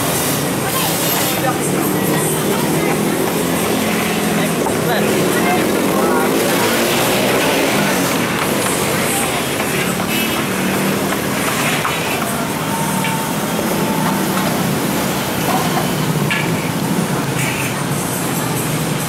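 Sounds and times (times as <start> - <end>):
passing traffic: 0.0 - 19.0.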